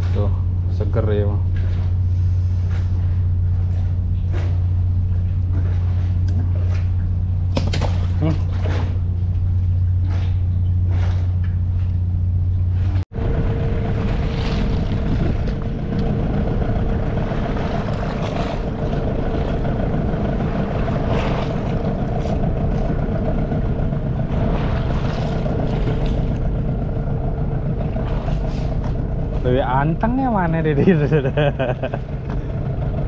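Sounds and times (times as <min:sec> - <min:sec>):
low steady hum: 0:00.0 - 0:33.0
outboard motor drone: 0:00.0 - 0:33.0
water wash: 0:00.0 - 0:33.0.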